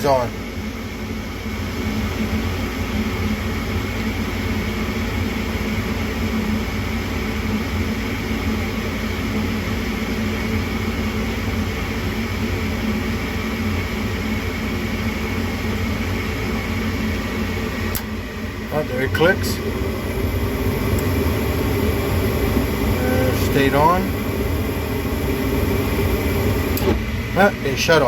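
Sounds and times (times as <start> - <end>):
furnace inducer motor humming: 0.0 - 28.0.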